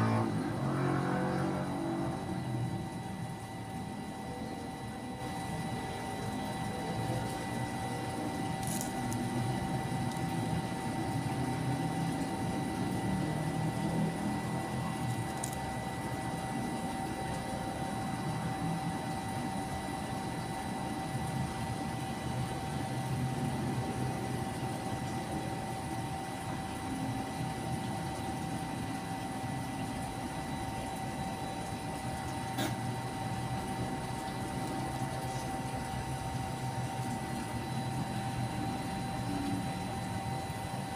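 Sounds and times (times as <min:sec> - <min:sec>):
machine hum with high whine: 0:00.0 - 0:40.9.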